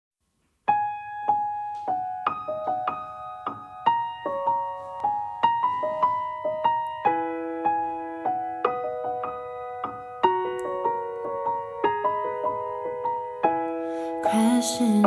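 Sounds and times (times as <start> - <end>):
slow gentle piano: 0.2 - 15.0.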